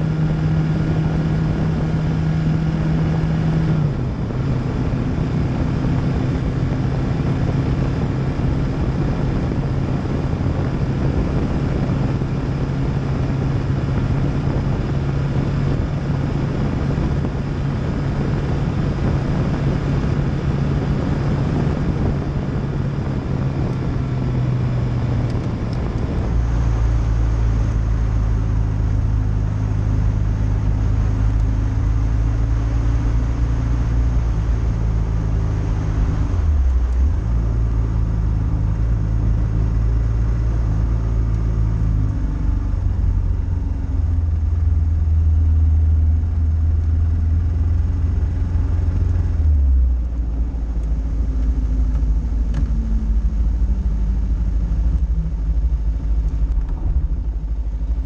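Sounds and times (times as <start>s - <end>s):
motorcycle engine cruising: 0.0s - 58.0s
wind noise: 0.0s - 58.0s.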